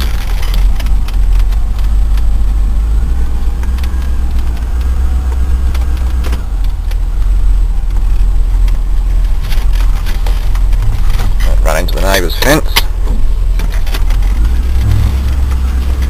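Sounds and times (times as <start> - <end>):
car engine deep rumble: 0.0 - 16.0.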